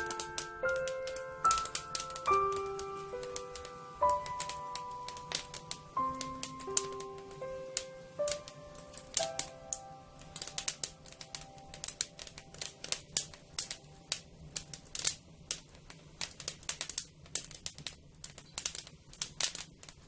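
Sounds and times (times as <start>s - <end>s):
soft held music notes: 0.0s - 16.5s
wood fire crackling: 0.0s - 20.0s.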